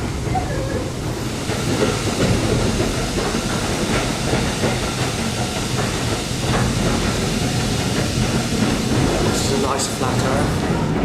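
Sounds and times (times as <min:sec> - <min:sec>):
steam train rumbling and rattling: 0:00.0 - 0:11.0.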